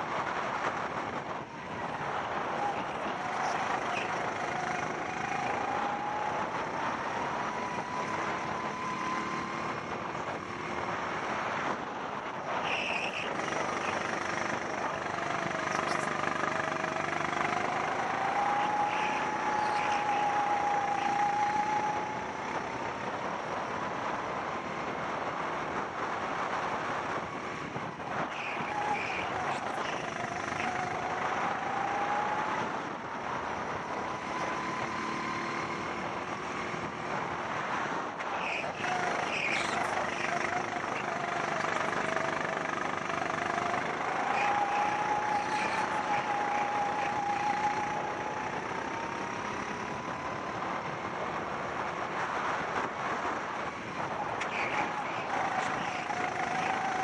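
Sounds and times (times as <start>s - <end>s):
kart engine running at speed: 0.0s - 57.0s.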